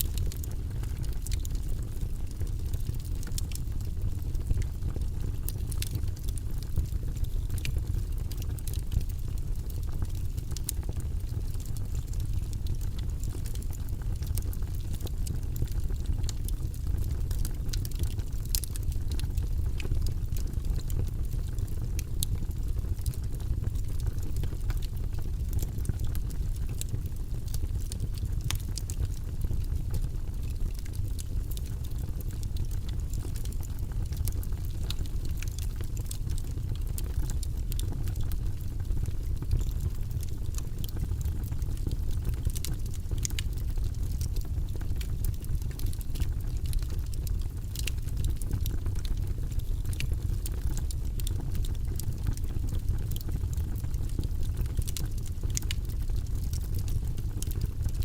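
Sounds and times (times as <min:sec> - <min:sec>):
logs burning in a fireplace: 0:00.0 - 0:58.0.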